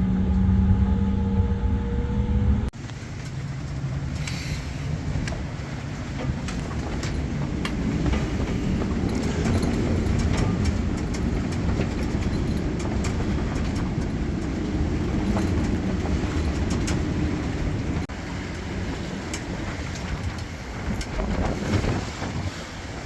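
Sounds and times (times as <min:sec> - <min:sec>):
moving vehicle rumble: 0:00.0 - 0:23.0
light clicks and rattles: 0:02.8 - 0:22.6.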